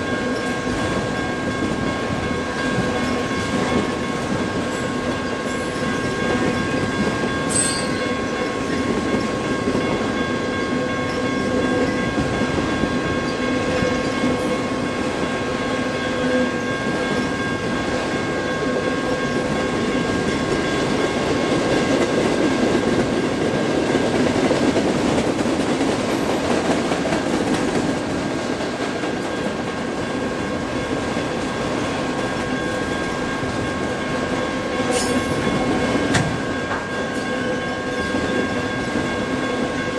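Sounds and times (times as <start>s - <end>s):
steady ringing tones: 0.0s - 39.9s
train wheels rumbling on rails: 0.0s - 39.9s.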